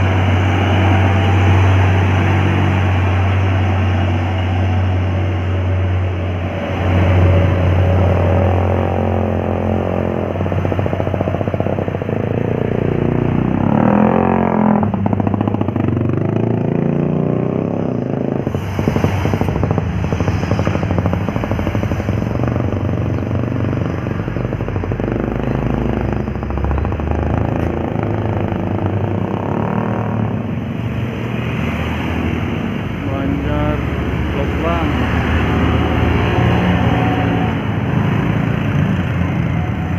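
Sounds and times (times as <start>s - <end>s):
heavy vehicle engines under load: 0.0s - 39.9s.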